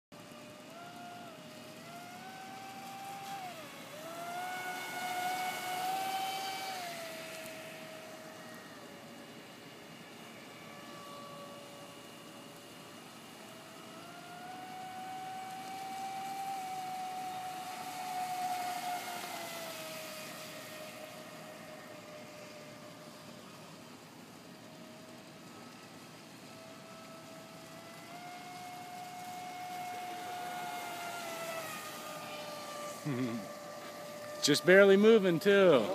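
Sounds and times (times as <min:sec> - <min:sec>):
electric motor whining: 0:00.2 - 0:35.9.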